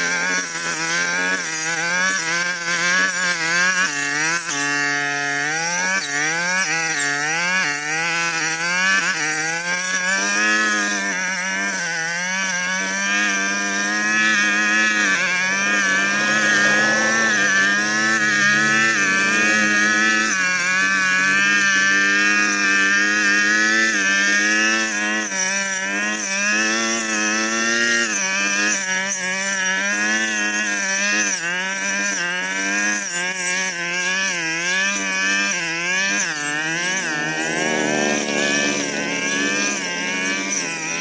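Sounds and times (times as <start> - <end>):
brush cutter engine revving: 0.0 - 41.0.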